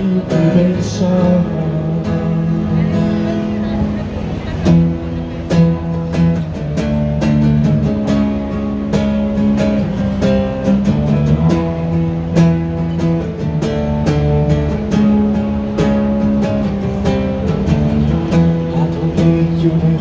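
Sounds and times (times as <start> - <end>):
acoustic guitars strumming chords: 0.0 - 20.0.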